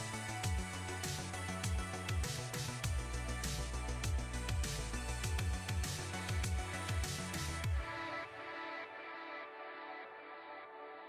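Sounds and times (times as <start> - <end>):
electronic music with kick drum: 0.0 - 10.8.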